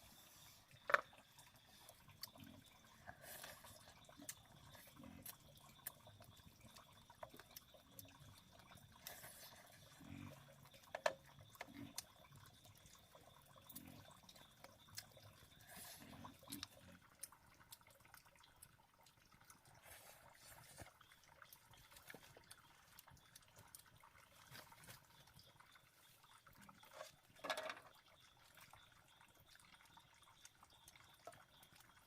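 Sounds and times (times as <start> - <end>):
sharp drip-like clicks: 0.0 - 32.0
water dripping and trickling: 0.0 - 32.0.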